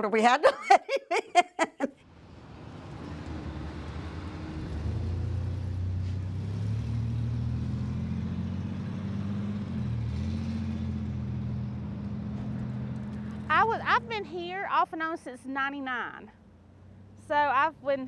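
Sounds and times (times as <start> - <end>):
road traffic: 1.8 - 18.0
vehicle engine humming nearby: 2.0 - 18.0.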